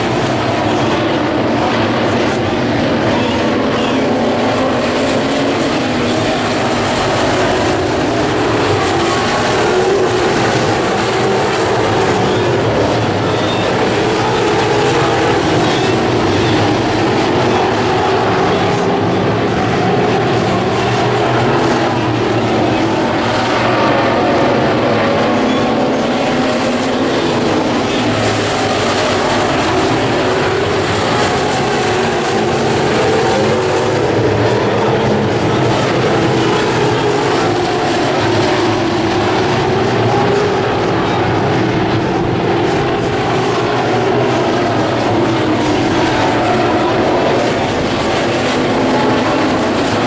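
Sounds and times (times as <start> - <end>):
race car engines droning: 0.0 - 50.0.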